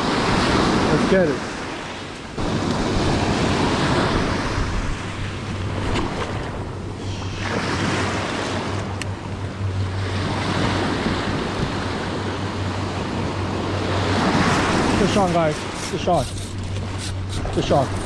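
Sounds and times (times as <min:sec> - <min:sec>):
small waves breaking on sand: 0:00.0 - 0:08.9, 0:10.0 - 0:18.0
wind buffeting microphone: 0:00.0 - 0:18.0.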